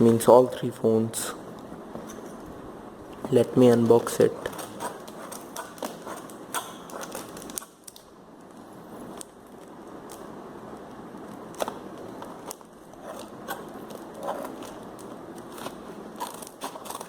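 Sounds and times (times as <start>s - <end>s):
packaging rustling and crackling: 1.5s - 17.0s.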